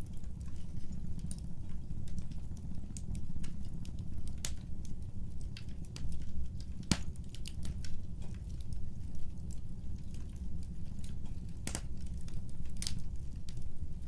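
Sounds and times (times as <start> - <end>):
fire popping: 0.0 - 14.0
low rumble of flames: 0.0 - 14.0
wood fire crackling: 0.0 - 14.0.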